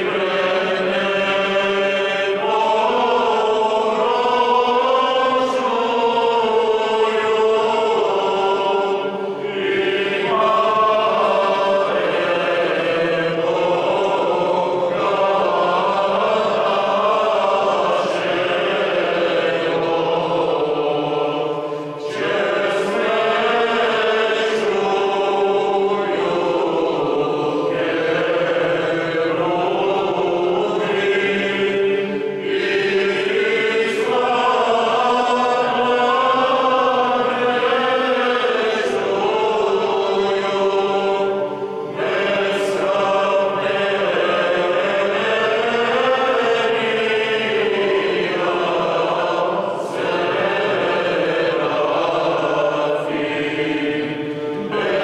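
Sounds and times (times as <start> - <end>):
men's choir chanting: 0.0 - 55.0.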